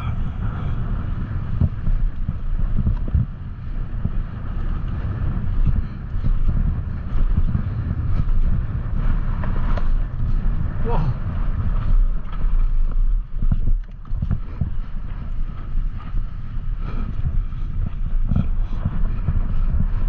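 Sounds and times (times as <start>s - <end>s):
mountain bike rolling on dirt: 0.0s - 20.0s
wind buffeting microphone: 0.0s - 20.0s.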